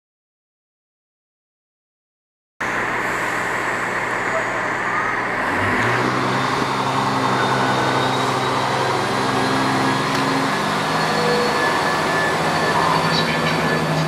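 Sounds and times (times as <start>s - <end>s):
diesel locomotive engine: 2.6s - 14.0s.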